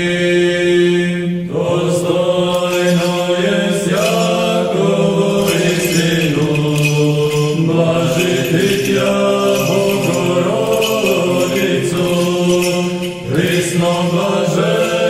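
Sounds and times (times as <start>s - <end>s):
voices chanting slow melody: 0.0s - 15.0s.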